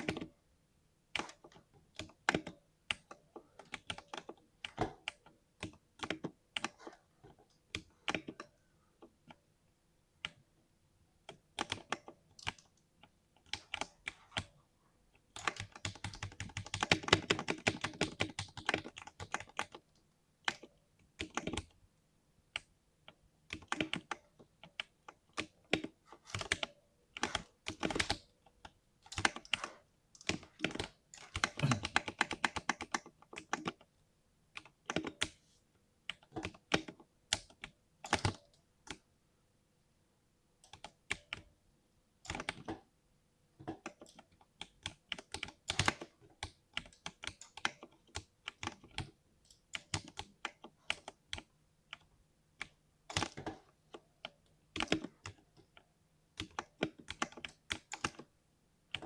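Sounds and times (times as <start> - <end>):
typing on mechanical keyboard: 0.0 - 0.3, 1.1 - 8.6, 11.2 - 14.6, 15.3 - 21.8, 22.6 - 33.9, 34.5 - 35.4, 36.1 - 39.0, 40.6 - 41.5, 42.2 - 42.9, 43.6 - 55.8, 56.4 - 58.3.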